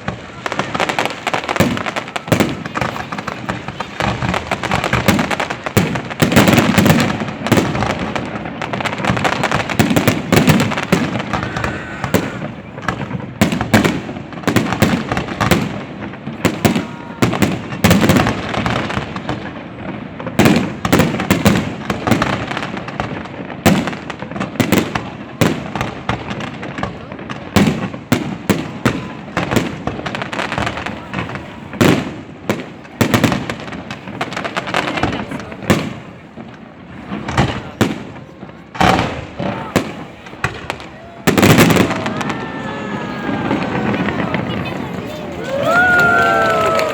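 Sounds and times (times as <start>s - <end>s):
fireworks banging and crackling: 0.0s - 46.9s.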